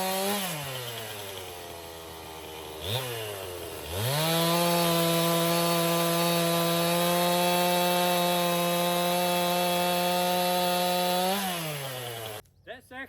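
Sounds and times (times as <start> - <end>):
chainsaw cutting through log: 0.0 - 12.4.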